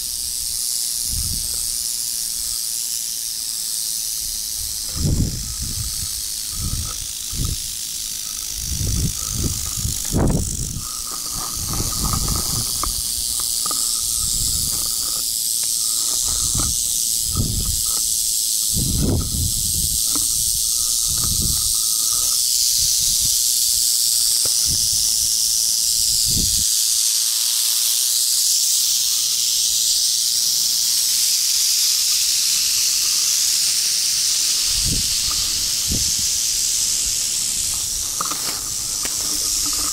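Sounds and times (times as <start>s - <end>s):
rattlesnakes rattling: 0.0s - 39.9s.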